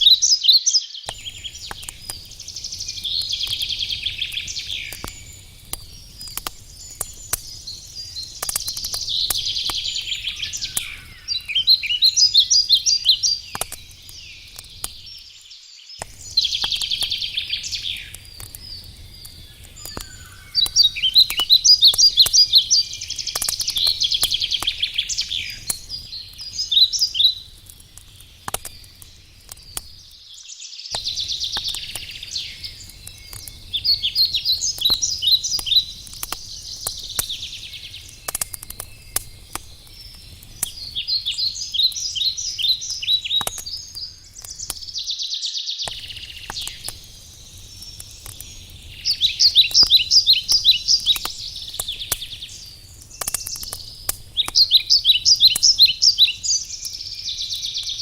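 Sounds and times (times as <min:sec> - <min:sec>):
songbird chirping: 0:00.0 - 0:58.0
campfire crackling and popping: 0:01.0 - 0:45.2, 0:45.8 - 0:58.0.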